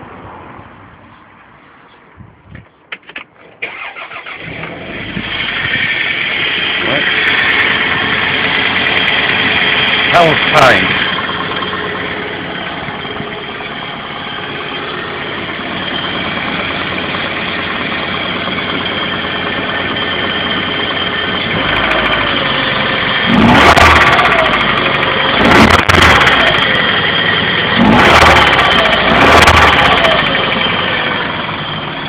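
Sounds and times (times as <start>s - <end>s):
car engine idling and revving: 3.0s - 32.0s.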